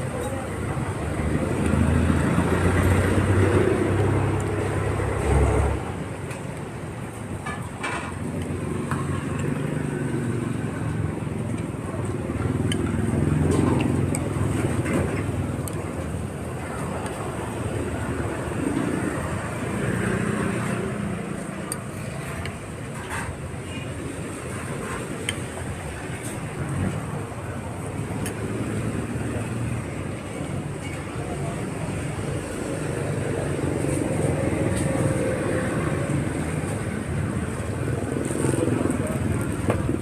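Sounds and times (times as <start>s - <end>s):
rumble of passing vehicles: 0.0s - 40.0s.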